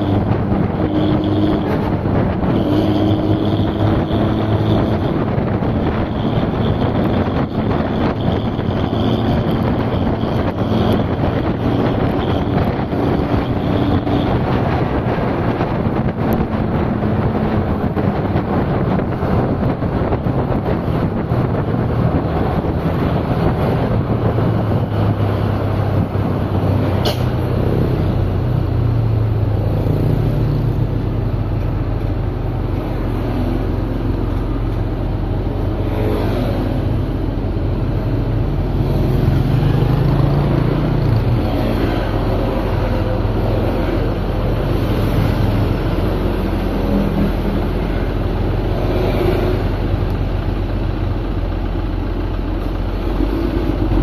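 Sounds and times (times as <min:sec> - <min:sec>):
vehicle engine rumble: 0:00.0 - 0:54.0.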